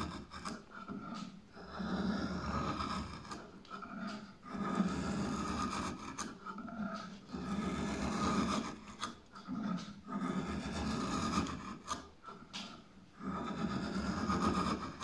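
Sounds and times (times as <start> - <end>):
drawknife shaving wood: 0.0 - 15.0.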